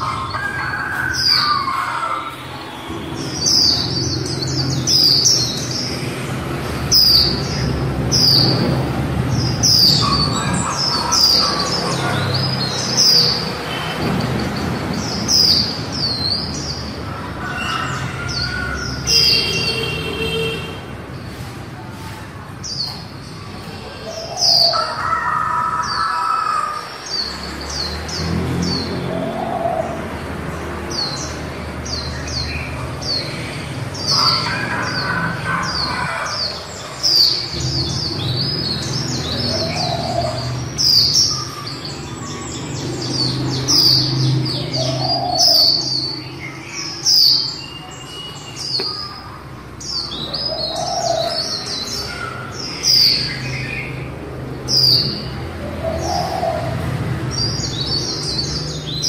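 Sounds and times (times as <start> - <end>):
bird chirping: 0.0 - 21.4, 22.6 - 59.0.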